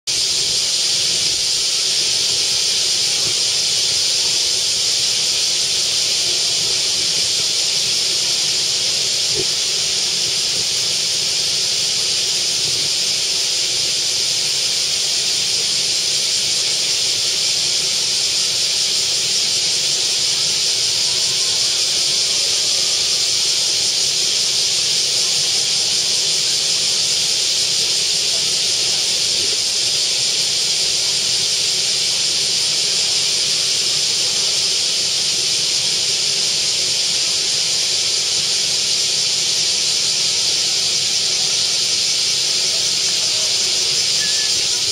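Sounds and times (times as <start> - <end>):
steady high-pitched hiss: 0.1 - 44.9.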